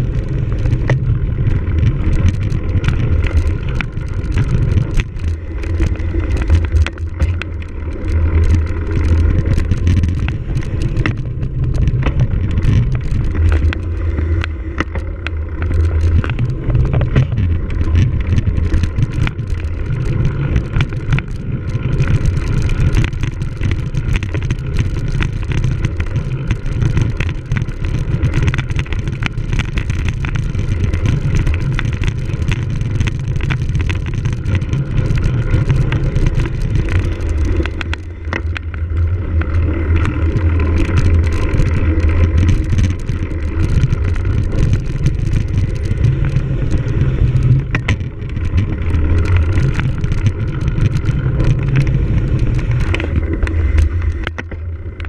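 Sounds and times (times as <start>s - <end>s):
bike rattling over rough ground: 0.0s - 55.0s
low rumble: 0.0s - 55.0s.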